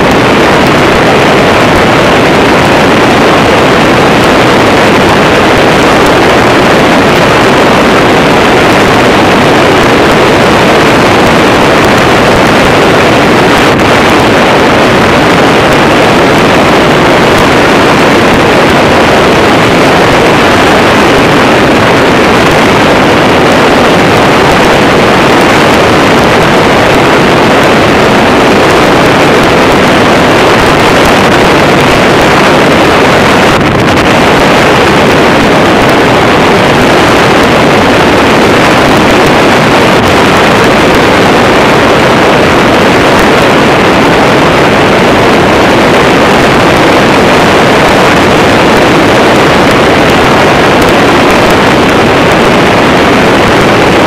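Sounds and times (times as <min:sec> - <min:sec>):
aircraft engine noise: 0:00.0 - 0:54.0
rush of wind: 0:00.0 - 0:54.0.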